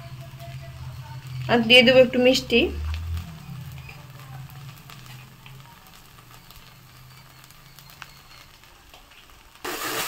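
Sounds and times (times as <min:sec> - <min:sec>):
low hum: 0:00.0 - 0:08.4
food sizzling in oil: 0:00.0 - 0:10.0
small crackles: 0:00.0 - 0:10.0.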